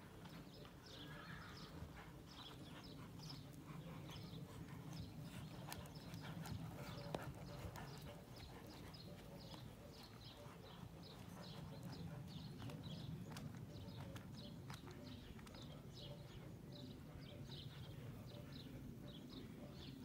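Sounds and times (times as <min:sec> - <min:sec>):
horse hoofbeats on sand: 0:00.1 - 0:17.4.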